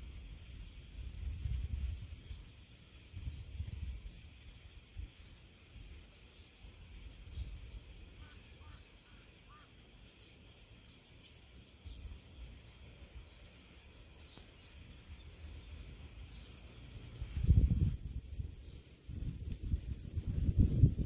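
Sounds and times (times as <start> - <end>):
small birds chirping: 0.0 - 21.0
steady high hiss: 0.0 - 21.0.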